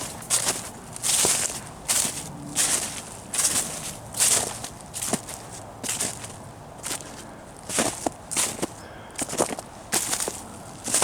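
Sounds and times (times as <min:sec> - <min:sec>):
footsteps crunching on frozen ground: 0:00.0 - 0:11.0.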